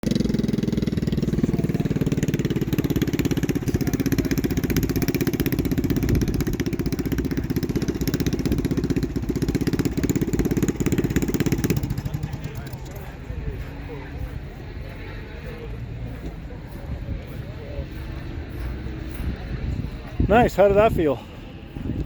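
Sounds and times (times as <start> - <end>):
small engine chugging: 0.0 - 22.0.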